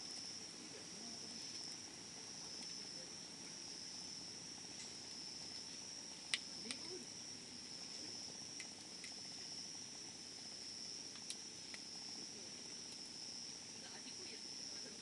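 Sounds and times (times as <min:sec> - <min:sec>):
campfire crackling and popping: 0:00.0 - 0:15.0
insect trill: 0:00.0 - 0:15.0
low hiss: 0:00.0 - 0:15.0.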